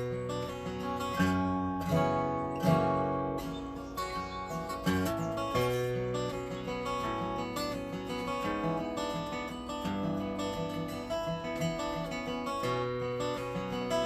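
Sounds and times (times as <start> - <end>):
flatpicked acoustic guitar: 0.0 - 14.0.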